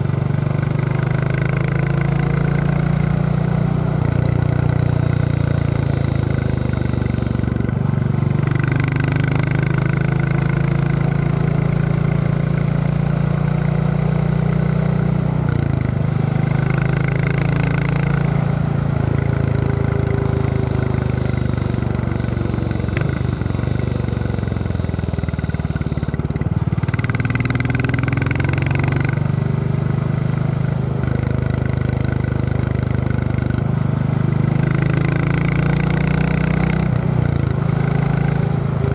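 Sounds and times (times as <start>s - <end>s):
motorcycle engine thumping: 0.0s - 38.9s.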